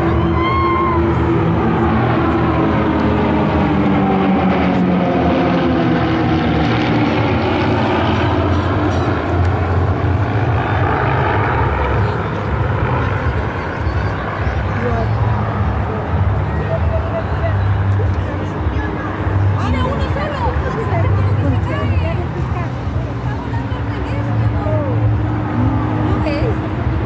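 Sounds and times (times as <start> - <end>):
propeller aircraft engine passing: 0.0 - 27.0.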